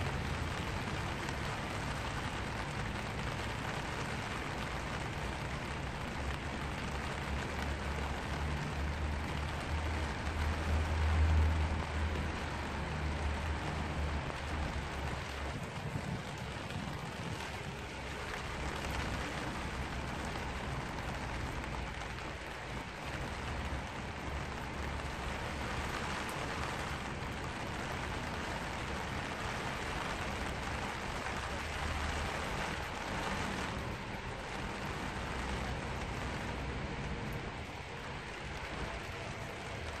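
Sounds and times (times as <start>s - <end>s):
rain on umbrella: 0.0s - 40.0s.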